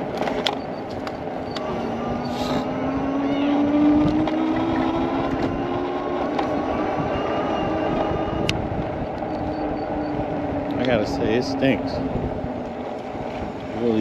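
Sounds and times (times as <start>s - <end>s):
wind and ride rumble: 0.0s - 14.0s
rising hum: 0.6s - 13.8s.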